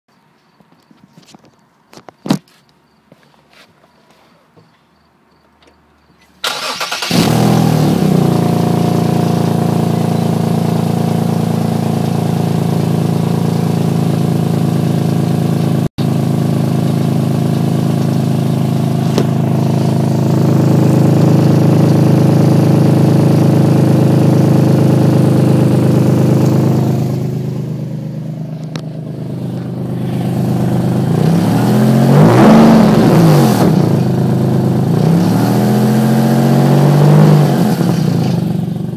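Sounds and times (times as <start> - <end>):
engine with exhaust leak: 6.4 - 38.8.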